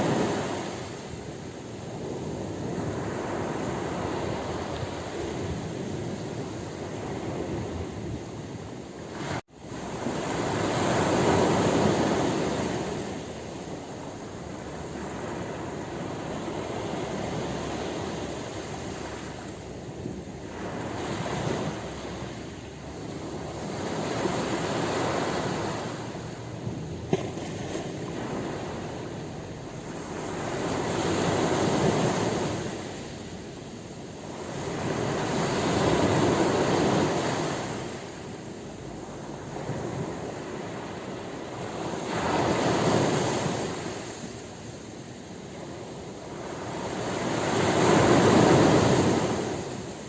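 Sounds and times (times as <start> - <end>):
waves breaking on shore: 0.0 - 50.0.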